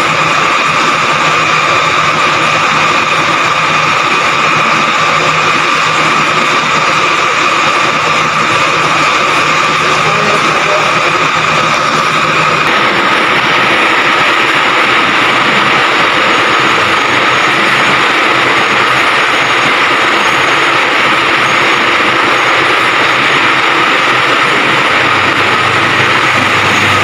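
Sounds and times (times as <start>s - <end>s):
machinery hissing and humming: 0.0s - 27.0s.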